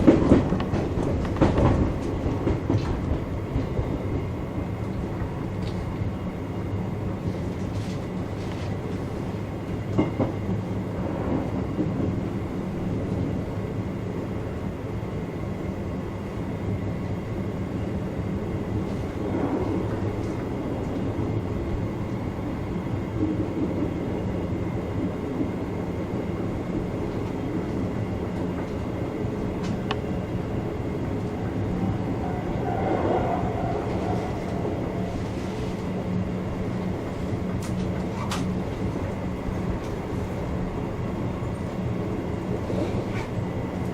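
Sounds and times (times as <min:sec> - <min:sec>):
electric train running hum: 0:00.0 - 0:43.9.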